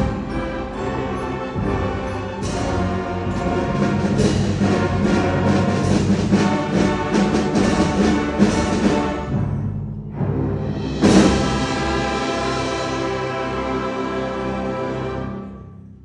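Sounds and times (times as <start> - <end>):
orchestral brass fanfare: 0.0 - 9.6, 10.2 - 15.8
timpani strokes: 0.0 - 15.8.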